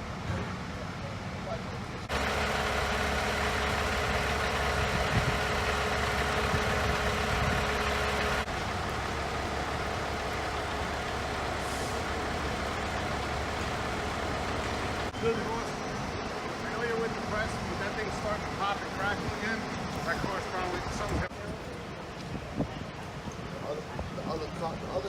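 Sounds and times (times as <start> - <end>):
heavy truck engine idling: 0.0 - 21.3.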